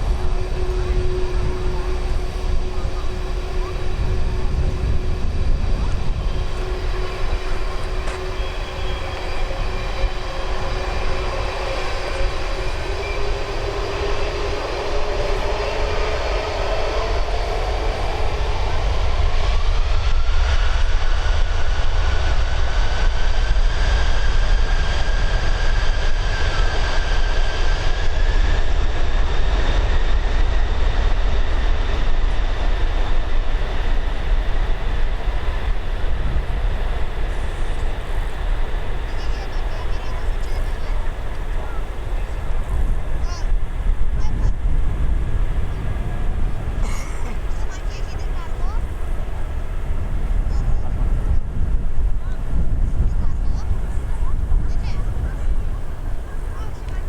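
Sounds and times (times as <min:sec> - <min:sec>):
jet engines spooling up: 0:00.0 - 0:57.0.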